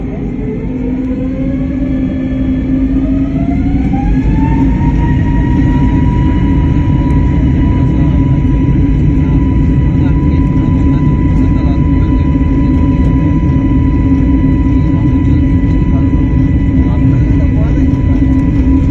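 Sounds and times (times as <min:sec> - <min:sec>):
jet engine low rumble: 0:00.0 - 0:18.9
jet engine whine: 0:00.0 - 0:18.9.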